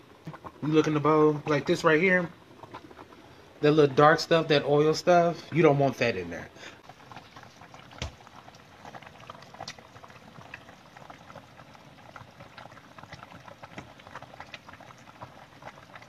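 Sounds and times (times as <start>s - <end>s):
soup bubbling in a pot: 0.0s - 16.0s.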